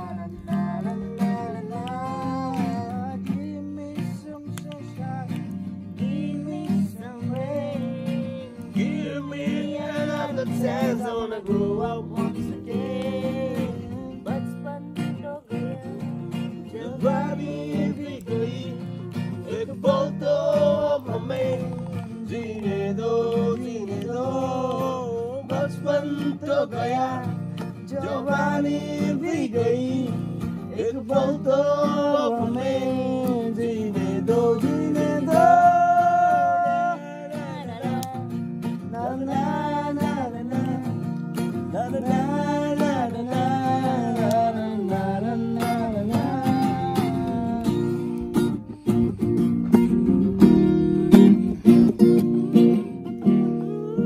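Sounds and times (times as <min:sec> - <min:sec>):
person singing: 0:00.0 - 0:05.3, 0:05.9 - 0:41.0, 0:41.7 - 0:49.3, 0:50.3 - 0:54.0
strummed acoustic guitar: 0:00.0 - 0:54.0.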